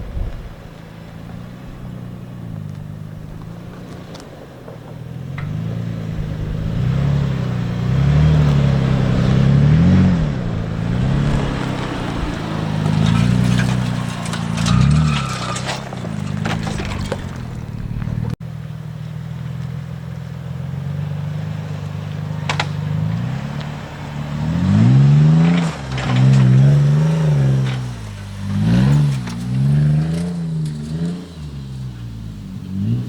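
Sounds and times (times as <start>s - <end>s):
car engine droning and revving: 0.0s - 33.0s.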